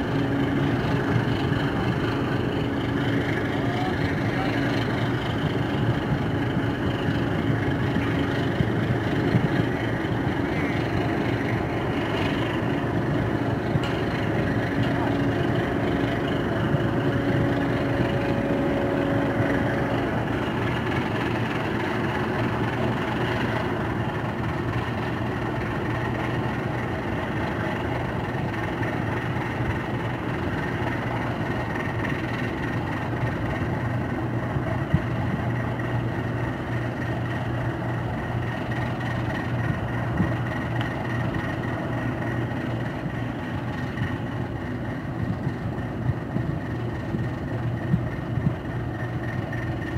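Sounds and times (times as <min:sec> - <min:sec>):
boat diesel engine humming: 0:00.0 - 0:49.9
higher engine tone: 0:00.0 - 0:49.9.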